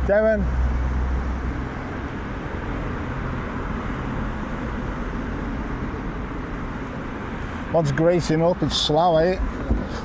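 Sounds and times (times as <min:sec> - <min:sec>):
road noise hiss: 0:00.0 - 0:10.0
vehicle engine rumble: 0:00.0 - 0:10.0.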